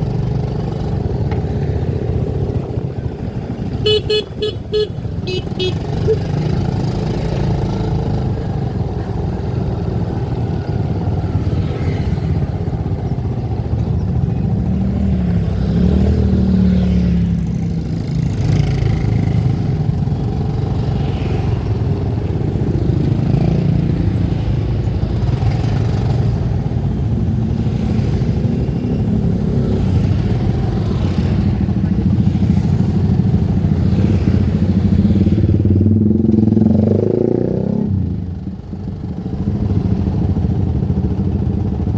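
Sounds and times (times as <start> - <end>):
vehicle engine running on road: 0.0 - 41.9.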